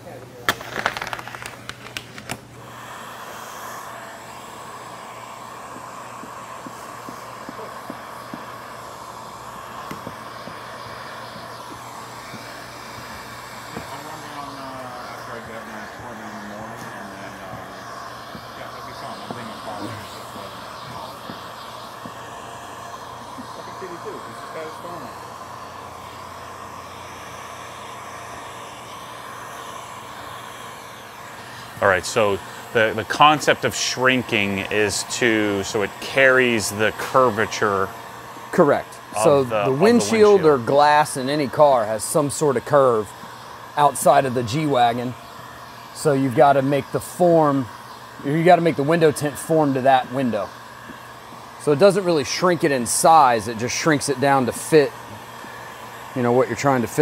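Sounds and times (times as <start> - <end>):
heat gun blowing: 0.4 - 57.0.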